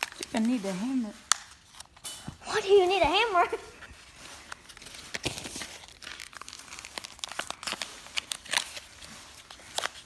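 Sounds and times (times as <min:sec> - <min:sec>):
card pack wrapper crinkling: 0:00.0 - 0:03.1, 0:04.0 - 0:10.0.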